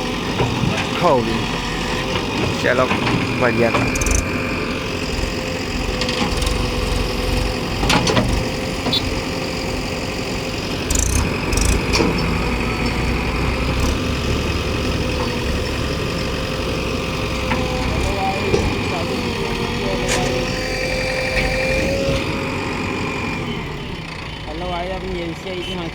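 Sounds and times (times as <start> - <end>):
tractor engine idling: 0.0 - 25.9.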